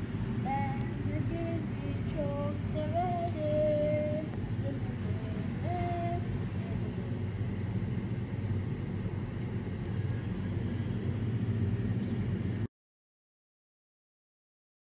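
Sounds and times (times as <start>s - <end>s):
low outdoor rumble: 0.0s - 12.7s.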